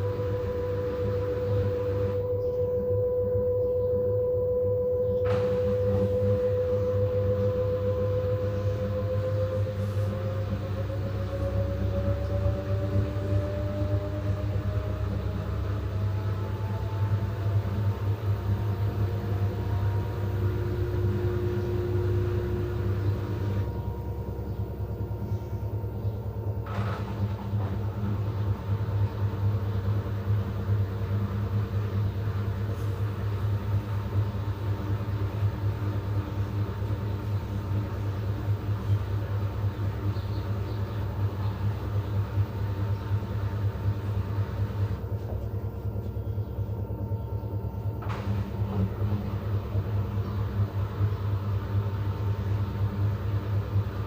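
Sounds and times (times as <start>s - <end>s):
washing machine drum spinning: 0.0s - 4.2s, 4.8s - 54.0s.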